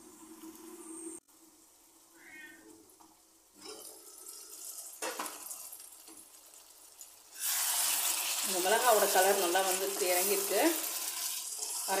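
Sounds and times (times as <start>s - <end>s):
chicken bubbling and sizzling: 0.0s - 12.0s.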